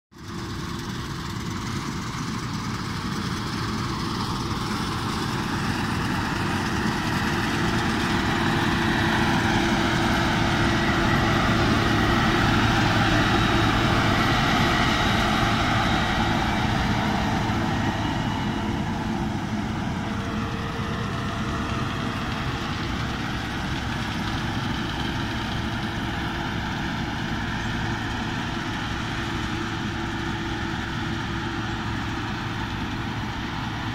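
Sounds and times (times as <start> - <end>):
combine harvester running: 0.2 - 33.9.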